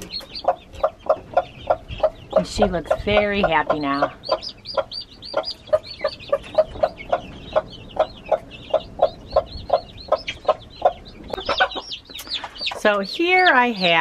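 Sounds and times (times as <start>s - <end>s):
chicks peeping: 0.0s - 14.0s
hen clucking: 0.0s - 14.0s.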